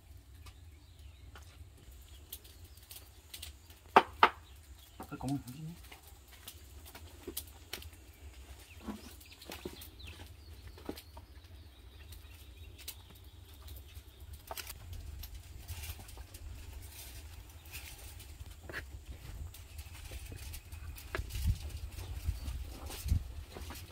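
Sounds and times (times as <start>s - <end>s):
leaves and foil rustling: 0.0s - 23.9s.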